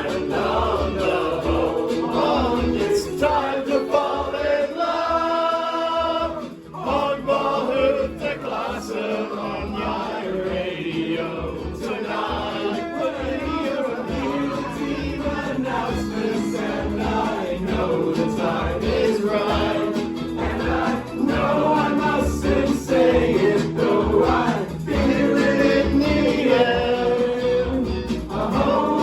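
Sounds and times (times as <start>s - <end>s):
rock song with sung vocals: 0.0s - 29.0s.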